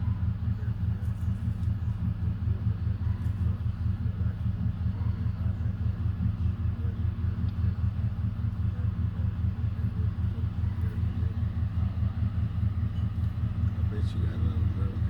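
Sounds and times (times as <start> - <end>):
low pulsing rumble: 0.0 - 15.0.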